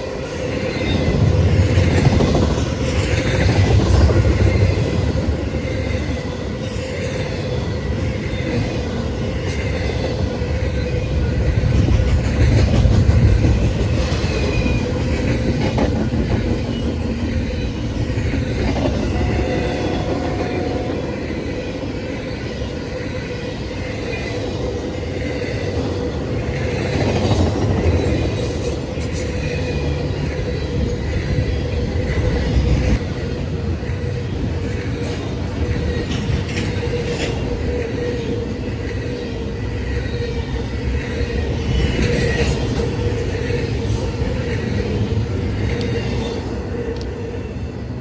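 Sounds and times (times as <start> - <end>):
freight train rumbling past: 0.0 - 48.0.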